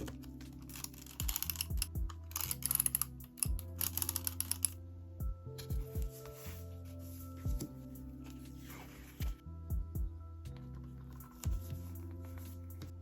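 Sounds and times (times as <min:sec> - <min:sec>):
background music with low beat: 0:00.0 - 0:13.0.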